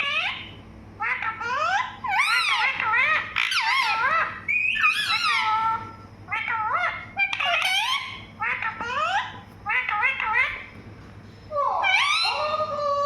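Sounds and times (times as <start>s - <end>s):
parrot warbling calls: 0.0s - 10.7s, 11.5s - 13.0s.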